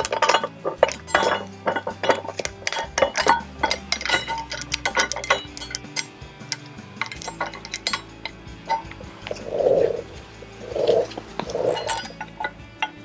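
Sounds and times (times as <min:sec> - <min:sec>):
metal parts clinking and clicking: 0:00.0 - 0:13.0.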